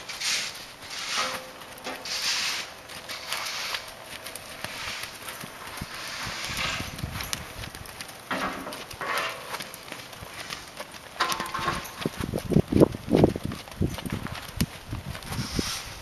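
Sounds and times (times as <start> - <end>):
horse hoofbeats in soft sand: 0.0 - 16.0.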